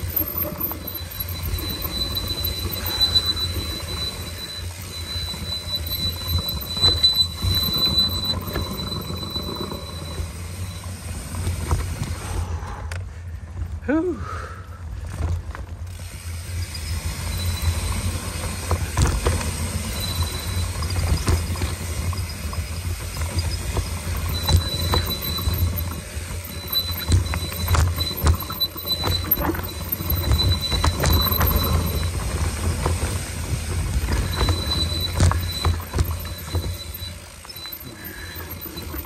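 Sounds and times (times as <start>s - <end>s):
high squeal: 0.0s - 11.5s, 16.3s - 39.0s
bike rattling over rocks: 0.0s - 12.5s, 14.8s - 39.0s
wind and tyres rumbling: 0.0s - 39.0s.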